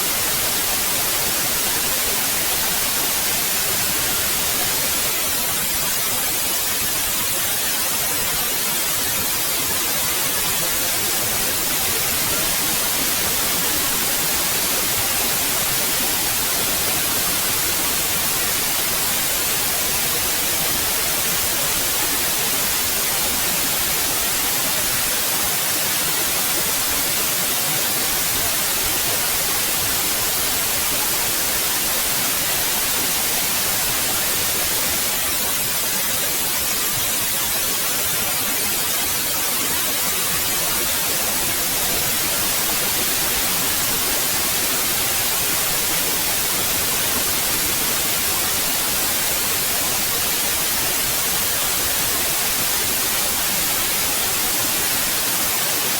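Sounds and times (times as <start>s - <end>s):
white noise hiss: 0.0s - 55.9s.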